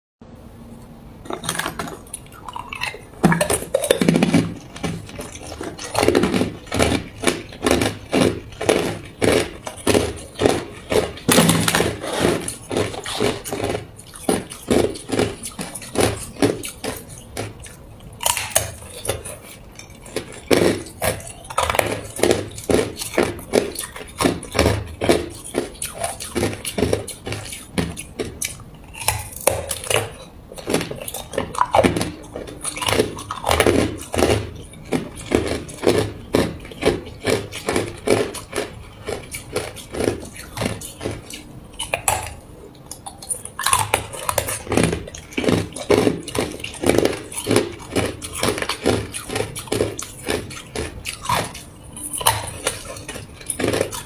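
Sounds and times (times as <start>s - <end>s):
person chewing ice crunchily: 1.2s - 54.0s.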